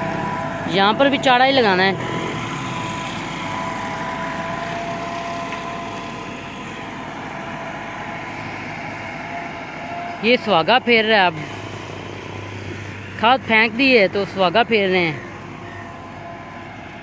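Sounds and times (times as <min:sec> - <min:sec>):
steady whine: 0:00.0 - 0:17.0
tractor engine running: 0:00.0 - 0:17.0.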